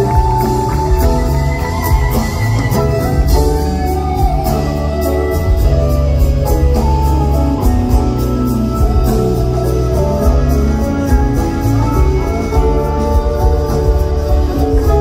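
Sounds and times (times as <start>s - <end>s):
electric guitar melody: 0.0s - 15.0s
live band playing: 0.0s - 15.0s.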